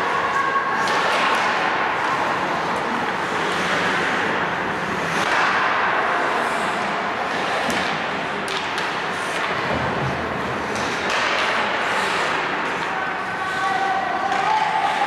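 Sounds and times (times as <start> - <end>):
steady rushing rink noise: 0.0 - 15.0.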